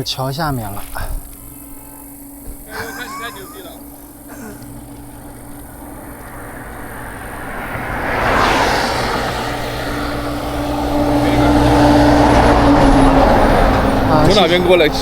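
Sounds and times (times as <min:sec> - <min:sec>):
engine hum with low drone: 0:00.0 - 0:15.0
vehicle passing by: 0:01.6 - 0:15.0.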